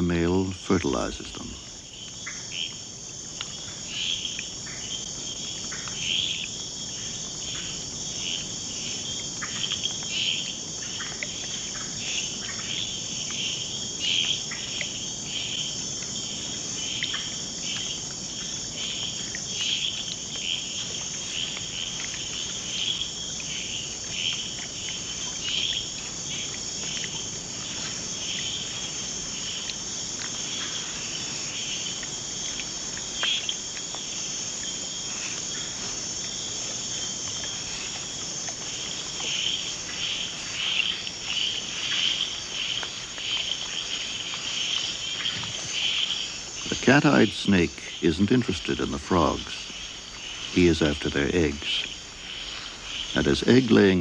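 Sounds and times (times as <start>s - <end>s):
insect chorus buzzing: 0.0s - 54.0s.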